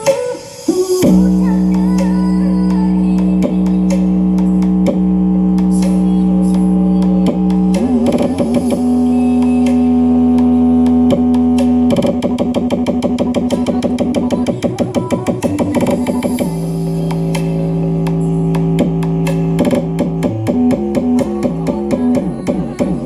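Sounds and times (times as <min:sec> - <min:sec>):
fast pulsing beat: 0:00.0 - 0:23.0
long held electronic notes: 0:01.0 - 0:23.0.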